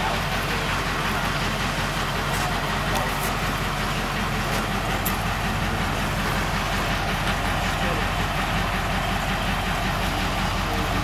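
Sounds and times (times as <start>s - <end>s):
diesel engine throbbing: 0.0s - 11.0s.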